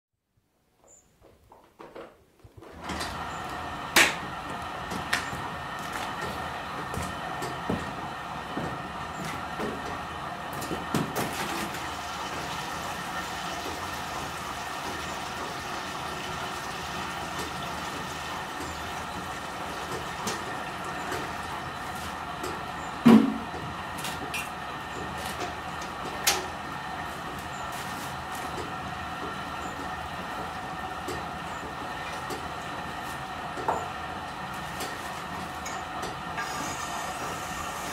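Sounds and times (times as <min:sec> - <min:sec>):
machine humming: 0:02.8 - 0:37.9.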